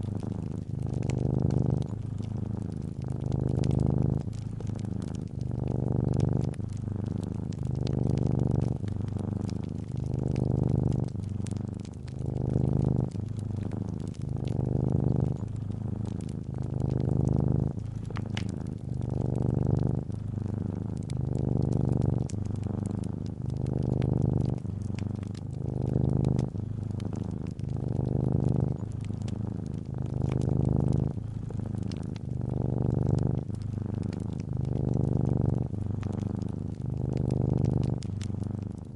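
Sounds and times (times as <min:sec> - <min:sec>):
cat purring: 0:00.0 - 0:38.9
fireplace crackling: 0:00.0 - 0:38.9.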